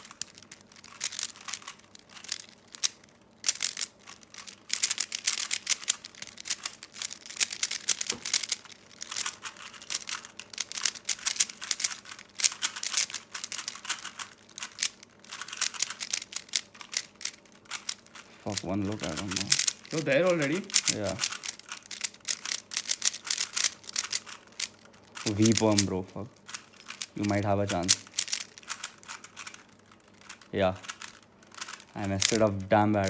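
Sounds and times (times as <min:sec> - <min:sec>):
plastic puzzle cube clicking: 0:00.0 - 0:32.7.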